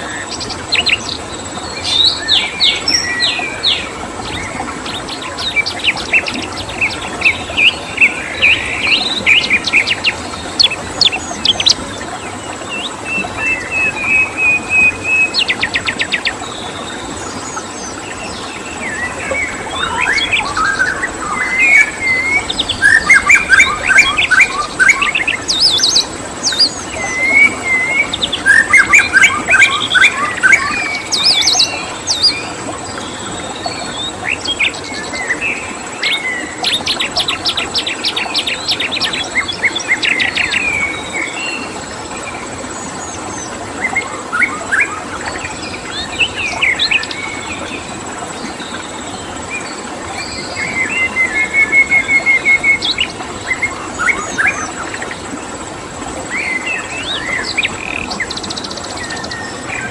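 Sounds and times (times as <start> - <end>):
songbirds chirping and singing: 0.0 - 41.7, 42.8 - 47.7, 52.3 - 55.4.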